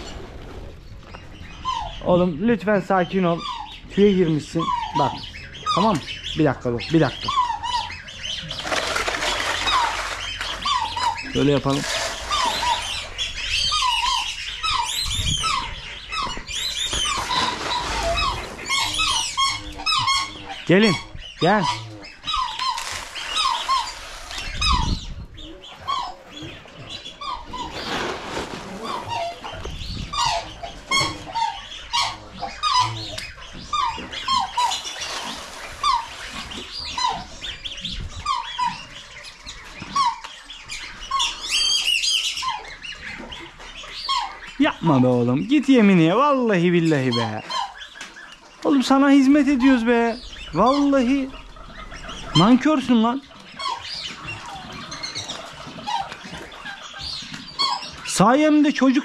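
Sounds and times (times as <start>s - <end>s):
birds chirping and peeping: 0.0s - 59.0s.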